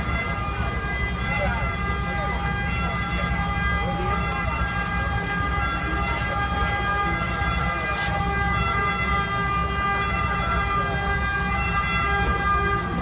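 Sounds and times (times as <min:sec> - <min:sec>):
continuous warning tone: 0:00.0 - 0:13.0
low engine rumble: 0:00.0 - 0:13.0.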